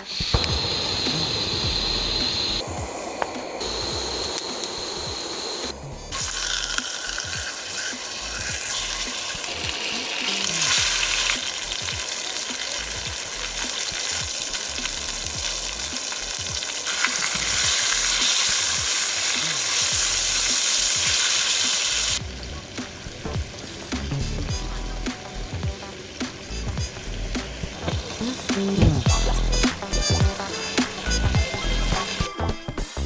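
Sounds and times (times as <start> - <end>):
food sizzling in a pan: 0.0 - 32.3.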